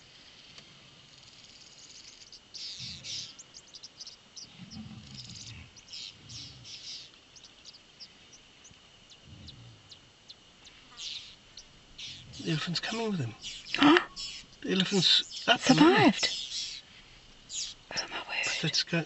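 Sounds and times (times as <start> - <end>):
high insect drone: 0.0 - 19.0
birds chirping: 1.2 - 19.0.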